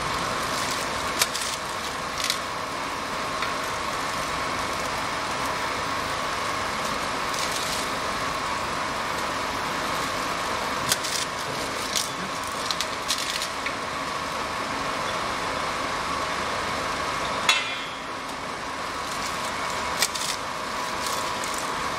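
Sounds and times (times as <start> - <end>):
labeling machine humming and whining: 0.0 - 21.9.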